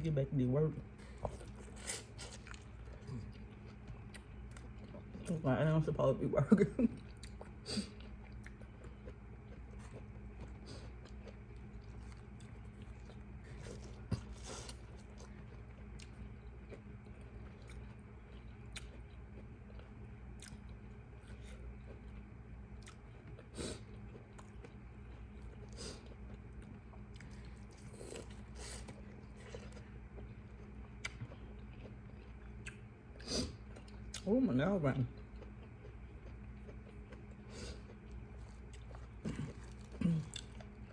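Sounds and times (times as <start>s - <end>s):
steady low hum: 0.0s - 40.9s
person chewing food: 0.9s - 5.4s, 6.8s - 34.3s, 34.9s - 40.9s.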